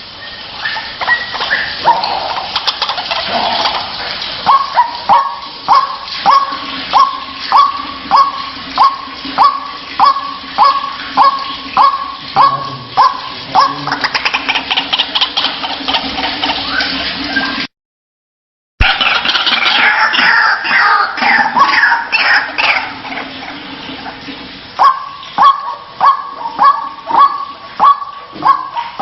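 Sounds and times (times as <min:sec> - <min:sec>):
waterhen calling: 0:00.0 - 0:17.7, 0:18.8 - 0:29.0.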